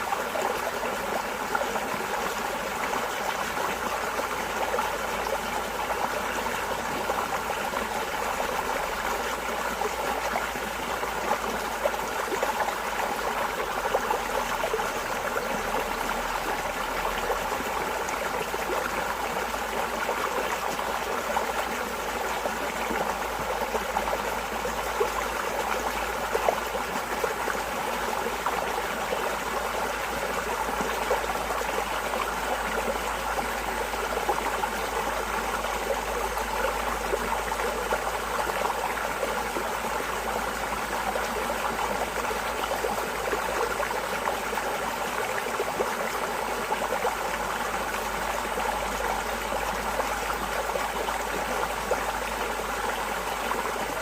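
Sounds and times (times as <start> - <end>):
running water babbling: 0.0 - 54.0.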